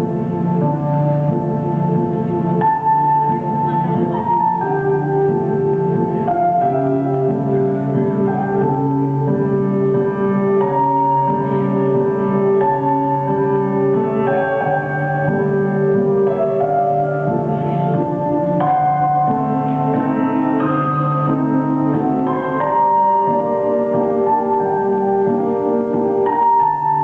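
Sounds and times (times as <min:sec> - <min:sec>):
bowed strings: 0:00.0 - 0:27.0
piano: 0:00.0 - 0:27.0.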